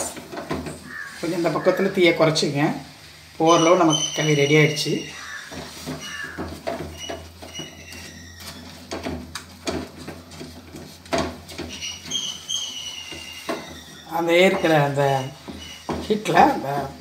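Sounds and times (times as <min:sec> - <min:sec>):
wooden spatula scraping steel pan: 0:00.0 - 0:17.0.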